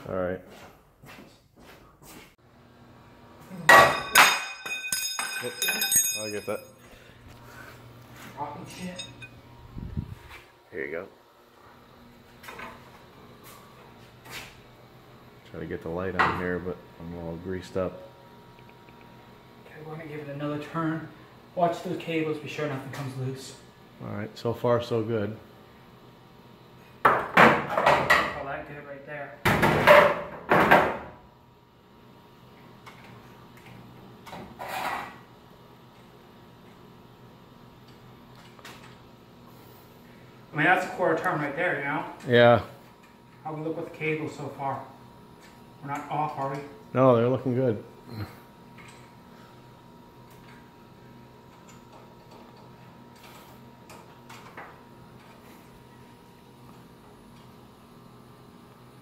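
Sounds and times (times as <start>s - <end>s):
steady low hum: 0.0s - 30.5s, 31.1s - 59.0s.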